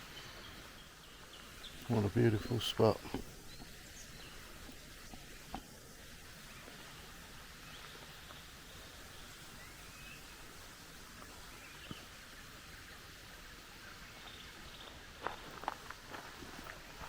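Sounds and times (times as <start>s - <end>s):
distant bird chirps: 0.0s - 15.6s
steady high hiss: 0.0s - 17.0s.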